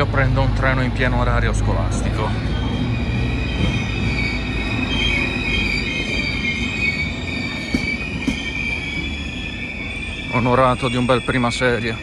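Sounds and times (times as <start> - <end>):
low train rumble: 0.0 - 12.0
train wheels squealing: 0.6 - 12.0.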